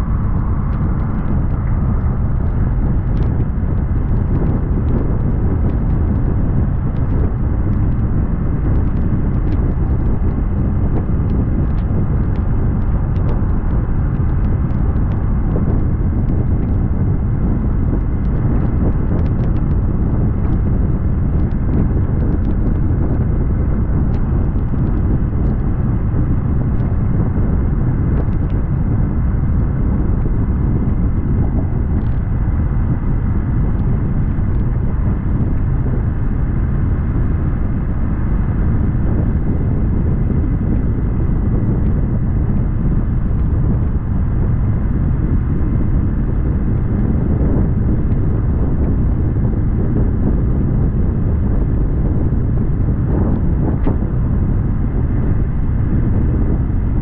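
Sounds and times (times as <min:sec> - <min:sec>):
motorcycle engine at speed: 0:00.0 - 0:57.0
wind and road noise: 0:00.0 - 0:57.0.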